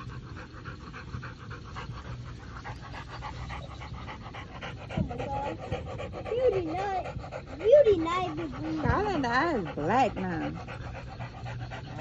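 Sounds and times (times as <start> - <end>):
dog panting rapidly: 0.0 - 12.0.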